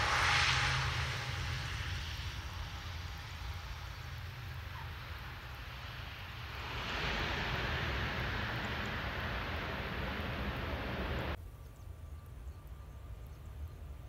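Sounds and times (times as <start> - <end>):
low rumble: 0.0 - 11.4
turboprop engine rushing: 0.0 - 11.4
faint steady tone: 0.0 - 14.0.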